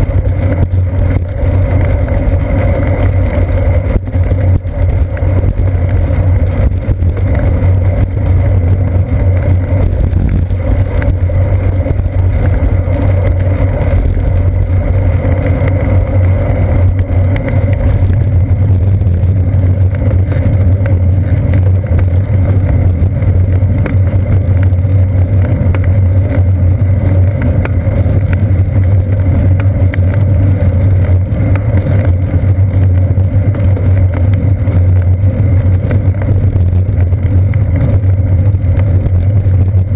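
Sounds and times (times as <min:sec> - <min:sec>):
bicycle road vibration: 0:00.0 - 0:39.9
wind buffeting: 0:00.0 - 0:39.9.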